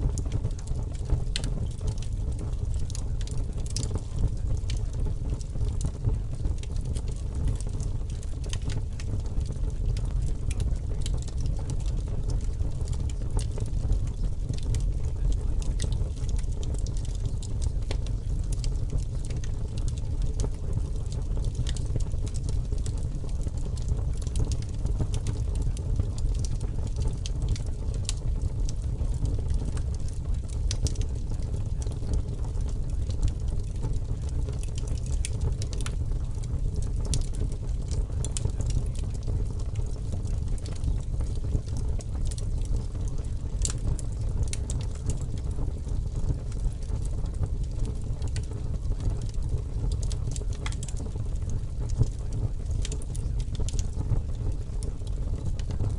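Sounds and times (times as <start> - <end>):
faint crackles and ticks: 0.0 - 55.9.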